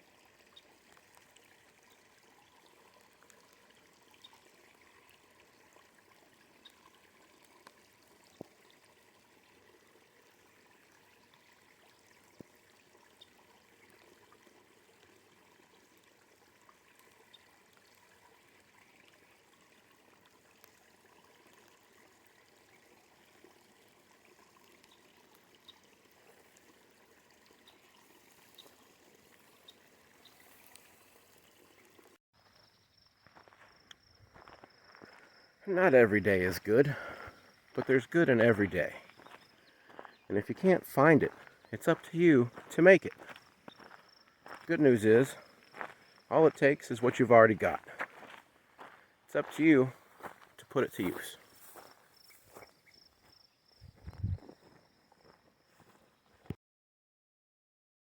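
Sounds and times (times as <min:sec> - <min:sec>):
light ticks and drips: 0:00.0 - 0:32.6, 0:33.3 - 0:53.8, 0:54.6 - 0:56.6
faint running water hiss: 0:00.0 - 0:56.5.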